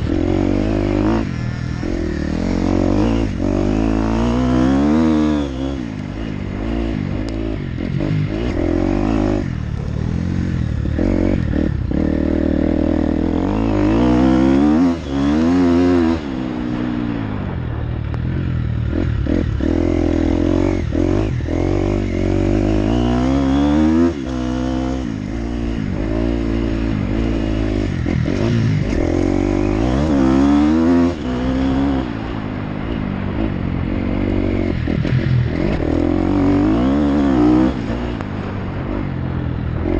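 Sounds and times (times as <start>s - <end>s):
motocross bike engine revving: 0.0s - 17.5s, 18.3s - 39.1s.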